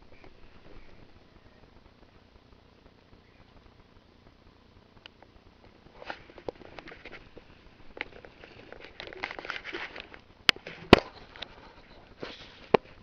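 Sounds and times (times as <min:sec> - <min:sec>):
rabbit eating crunching: 0:00.0 - 0:13.0.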